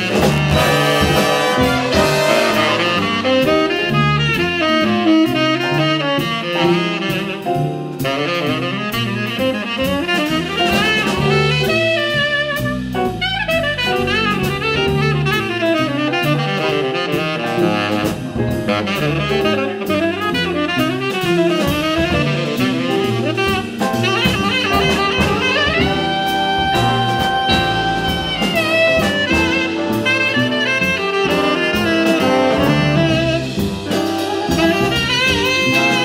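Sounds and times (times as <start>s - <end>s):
bass: 0.0s - 36.0s
drum kit with cymbals: 0.0s - 36.0s
saxophone playing fast line: 0.0s - 36.0s.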